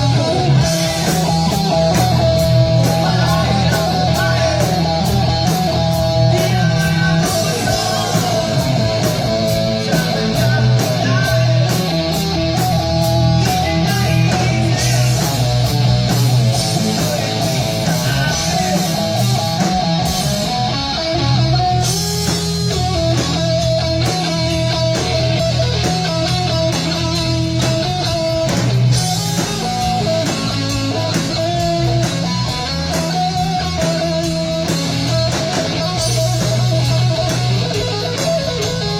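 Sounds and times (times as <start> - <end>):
electric guitar melody: 0.0 - 38.9
live rock band playing: 0.0 - 38.9.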